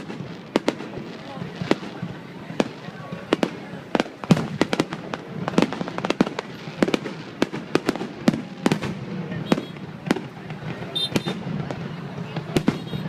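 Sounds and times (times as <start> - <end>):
fireworks bangs and cracks: 0.0 - 13.0
steady background noise: 0.0 - 13.0.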